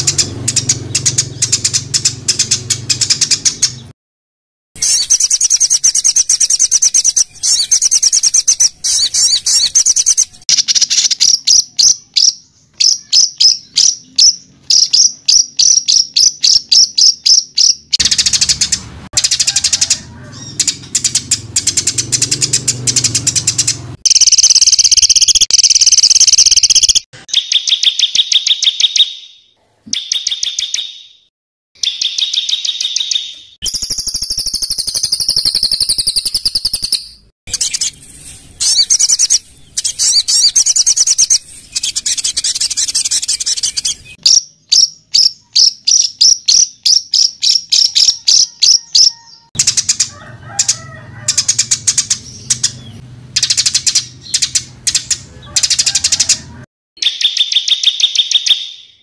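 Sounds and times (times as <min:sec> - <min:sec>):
songbird trilling and warbling: 0:00.0 - 0:03.9, 0:04.8 - 0:31.2, 0:31.8 - 0:59.0
sharp repeated bird notes: 0:00.0 - 0:04.0, 0:04.8 - 0:59.0.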